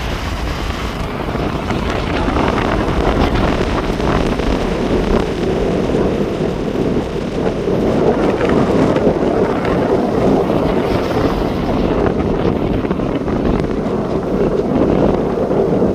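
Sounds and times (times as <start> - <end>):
sea waves breaking on beach: 0.0 - 15.9
wind buffeting microphone: 0.0 - 15.9.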